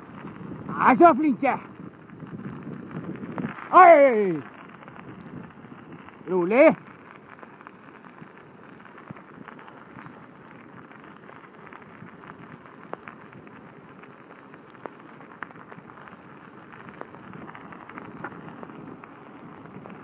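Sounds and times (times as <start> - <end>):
wheels rolling over wet asphalt: 0.0 - 20.0.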